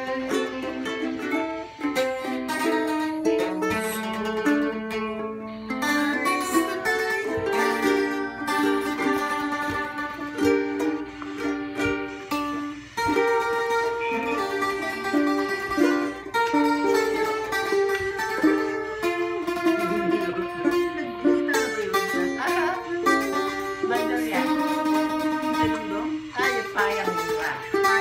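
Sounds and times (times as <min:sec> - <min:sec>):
plucked string instrument melody: 0:00.0 - 0:28.0.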